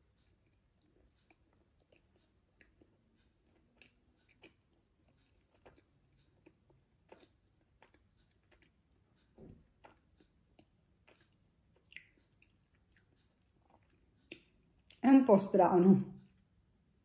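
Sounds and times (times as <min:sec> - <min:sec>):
chewing with mouth smacks: 0:00.0 - 0:15.0.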